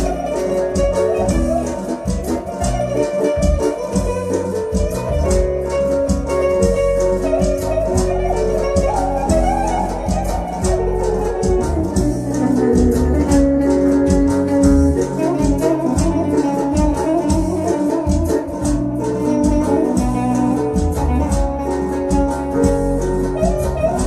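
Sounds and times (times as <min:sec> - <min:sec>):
electric guitar: 0:00.0 - 0:24.0
electronic keyboard: 0:00.0 - 0:24.0
steady beat: 0:00.0 - 0:24.0.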